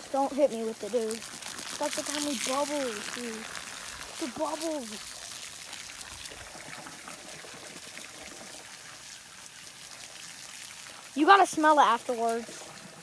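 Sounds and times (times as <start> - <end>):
water frothing into bubbles: 0.0 - 13.0
water pouring into container: 0.0 - 13.0.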